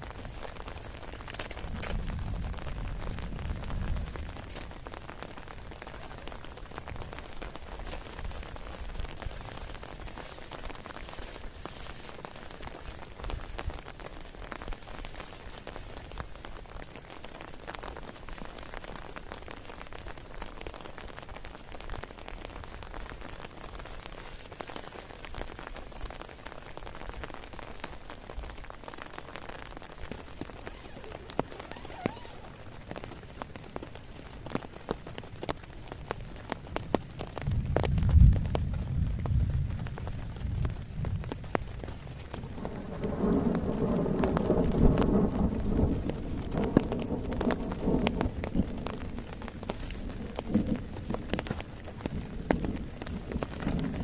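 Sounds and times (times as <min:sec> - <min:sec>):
heavy rain hissing: 0:00.0 - 0:54.0
raindrop ticks: 0:00.0 - 0:54.0.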